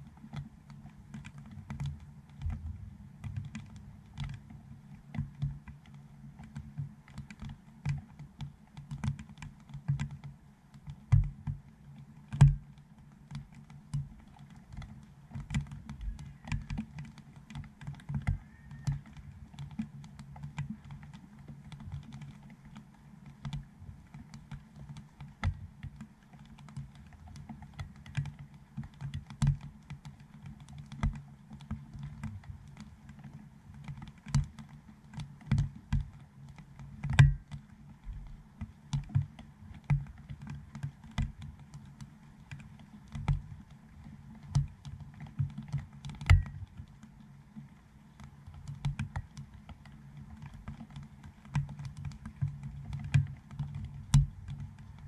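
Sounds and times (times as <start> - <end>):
raindrops tapping on plastic: 0.0 - 55.0.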